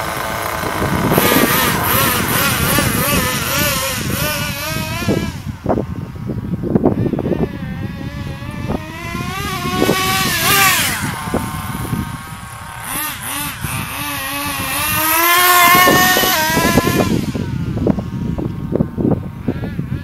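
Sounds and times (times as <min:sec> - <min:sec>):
toy car motor revving: 0:00.0 - 0:06.2, 0:07.0 - 0:18.8.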